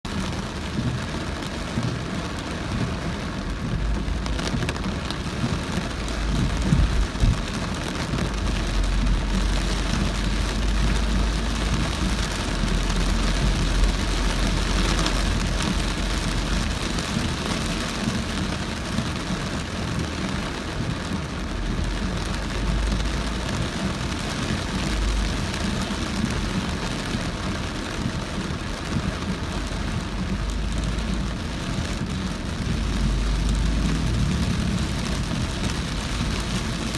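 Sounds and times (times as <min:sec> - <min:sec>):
car rumble and tyres on wet road: 0:00.0 - 0:36.9
heavy rain pounding on a car: 0:00.0 - 0:36.9.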